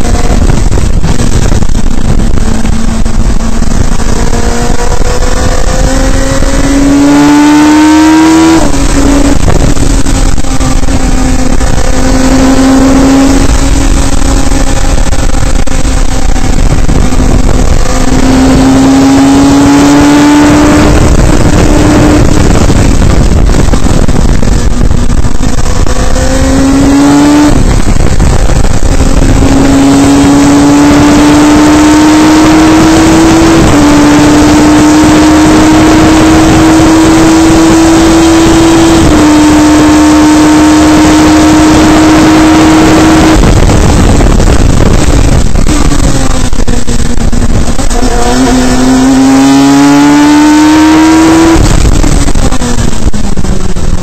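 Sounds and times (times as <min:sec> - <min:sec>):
race car engine accelerating: 0:00.0 - 0:54.0
wind and road noise: 0:00.0 - 0:54.0.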